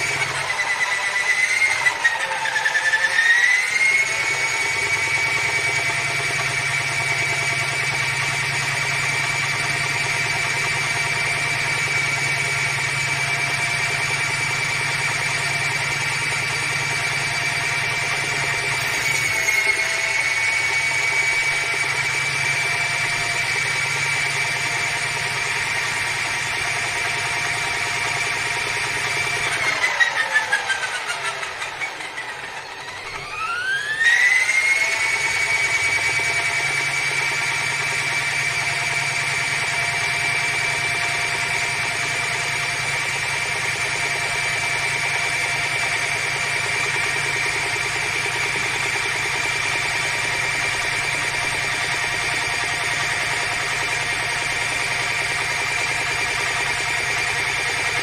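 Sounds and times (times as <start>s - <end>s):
spin-dryer motor whining: 0.0s - 58.0s.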